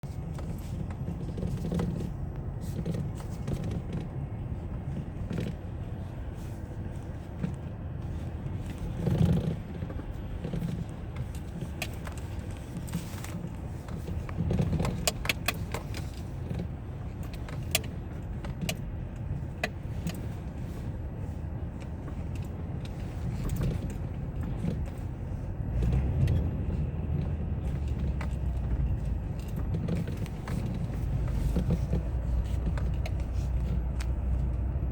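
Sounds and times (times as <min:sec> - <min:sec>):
car engine low rumble: 0:00.0 - 0:34.9.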